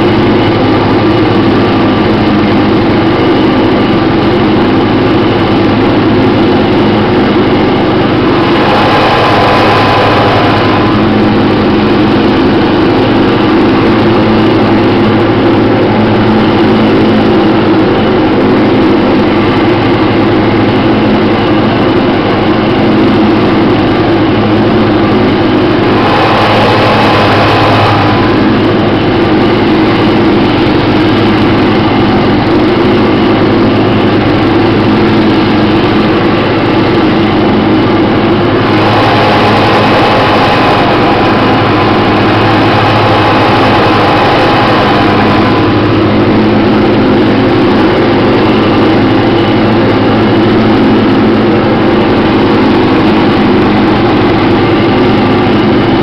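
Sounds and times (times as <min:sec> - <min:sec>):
high whine: 0:00.0 - 0:56.0
lawn tractor engine running: 0:00.0 - 0:56.0.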